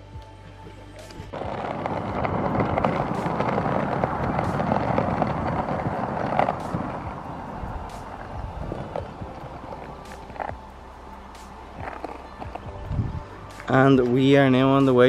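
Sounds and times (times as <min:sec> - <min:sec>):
wheels rolling over rough tarmac: 0:01.0 - 0:15.0.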